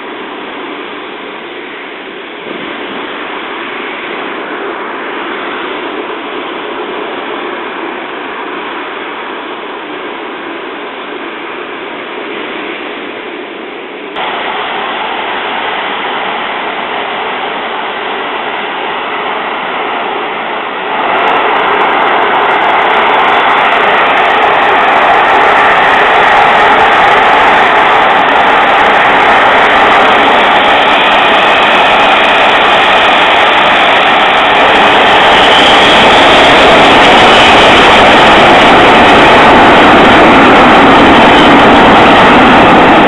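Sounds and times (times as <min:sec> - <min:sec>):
jet airliner engines: 0:00.0 - 0:43.0.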